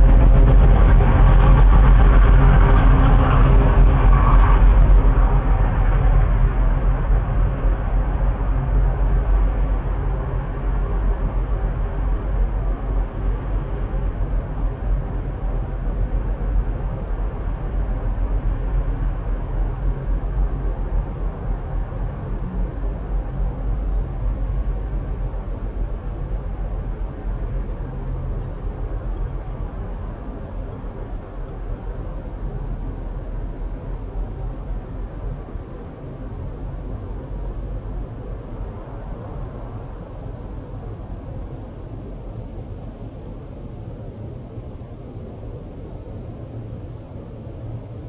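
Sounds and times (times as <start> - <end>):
low rumbling outdoor noise: 0.0 - 48.0.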